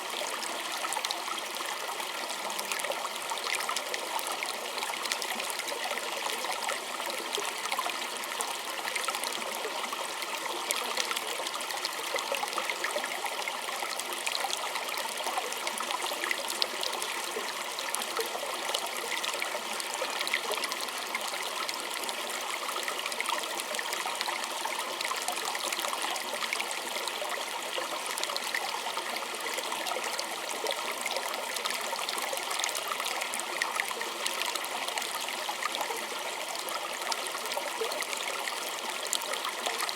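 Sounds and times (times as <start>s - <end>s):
creek trickling and splashing: 0.0s - 39.9s.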